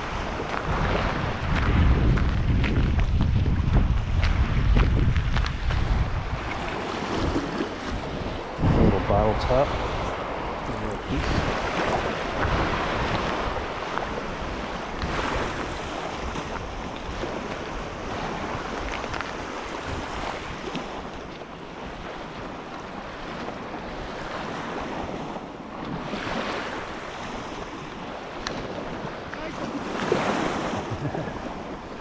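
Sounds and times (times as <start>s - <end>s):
lake waves washing onto shore: 0.0s - 32.0s
wind buffeting microphone: 0.0s - 32.0s.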